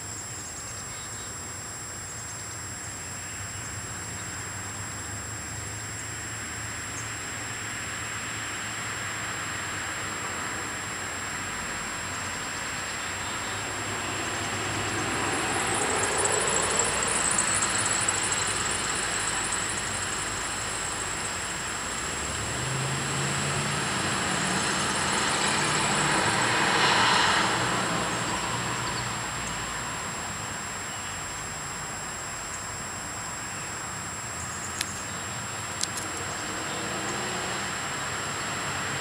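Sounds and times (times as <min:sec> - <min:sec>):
cars driving past: 0:04.6 - 0:31.3, 0:34.4 - 0:39.0.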